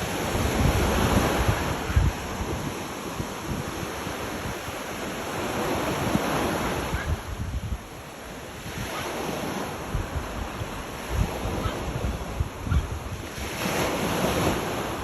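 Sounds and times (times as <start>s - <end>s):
ocean waves washing onto shore: 0.0s - 15.0s
wind buffeting microphone: 0.0s - 15.0s.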